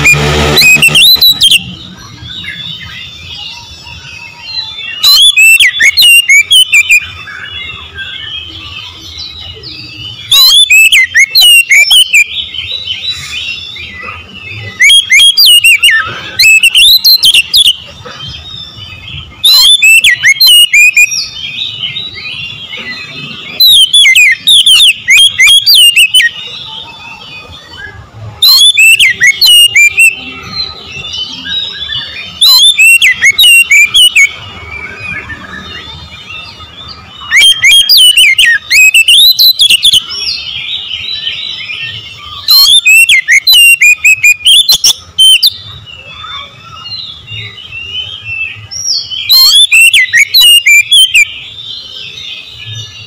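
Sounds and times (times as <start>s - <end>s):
magpie-robin singing: 0.0s - 53.0s
soft bird twittering: 0.0s - 53.0s.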